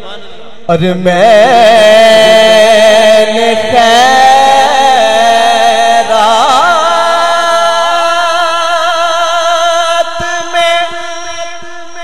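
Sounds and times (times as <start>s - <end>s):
man singing into a microphone: 0.1s - 12.0s.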